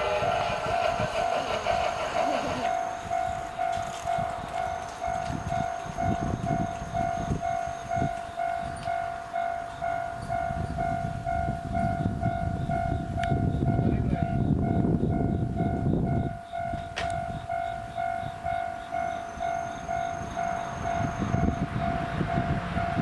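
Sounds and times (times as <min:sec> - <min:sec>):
level crossing alarm bell: 0:00.0 - 0:23.0.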